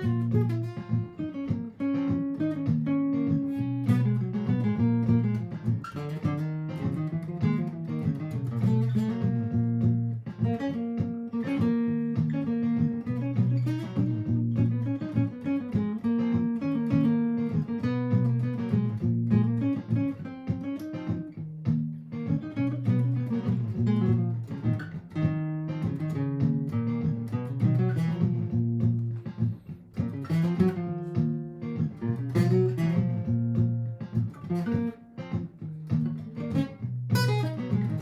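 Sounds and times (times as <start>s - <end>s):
guitar lead lines: 0.0s - 38.0s
strummed acoustic guitar chords: 0.0s - 38.0s.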